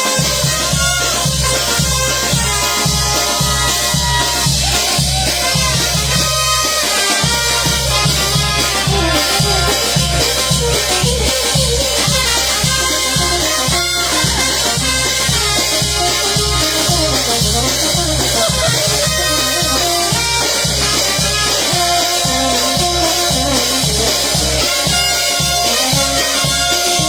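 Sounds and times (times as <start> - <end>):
brass band playing: 0.0 - 27.0
drums and percussion: 0.0 - 27.0.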